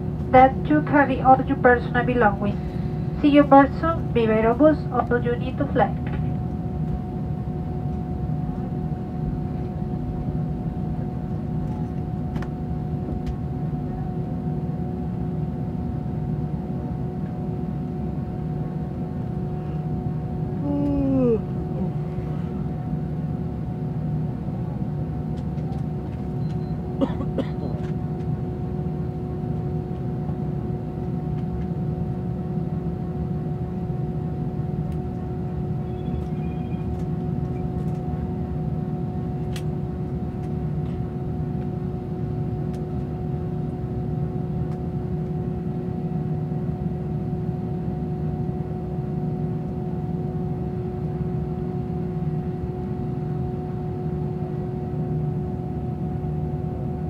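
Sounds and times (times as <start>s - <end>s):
airliner cabin rumble and drone: 0.0s - 57.0s.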